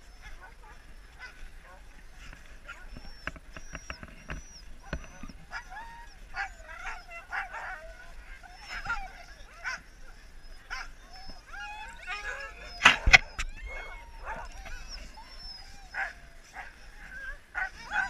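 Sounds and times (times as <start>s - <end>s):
huskies whining and yelping: 0.0s - 18.0s.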